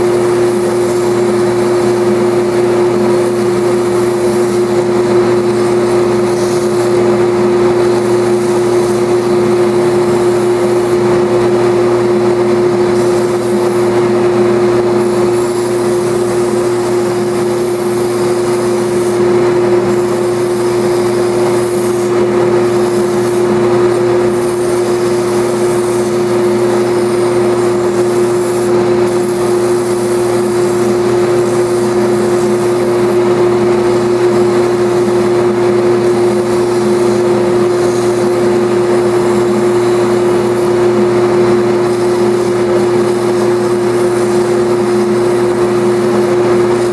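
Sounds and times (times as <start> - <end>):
dust collection exhaust: 0.0 - 46.9
sander motor hum: 0.0 - 46.9
wood sanding hiss: 0.0 - 46.9.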